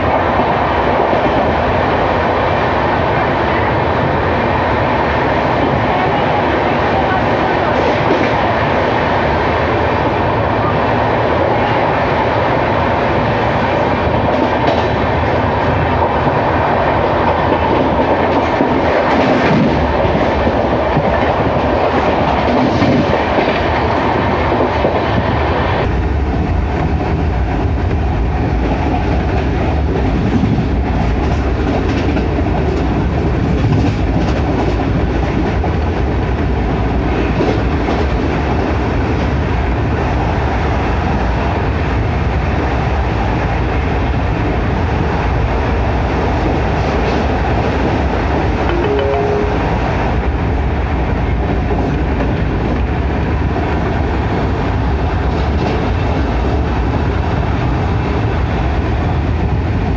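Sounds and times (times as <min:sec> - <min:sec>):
train wheels on rails: 0:00.0 - 0:48.8, 0:50.2 - 0:59.9.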